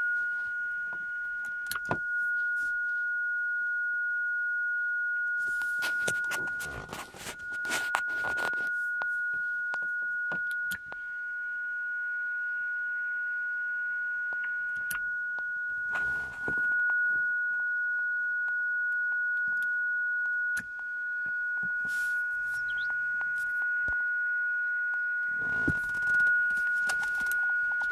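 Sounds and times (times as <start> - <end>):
steady radio whistle: 0.0 - 27.9.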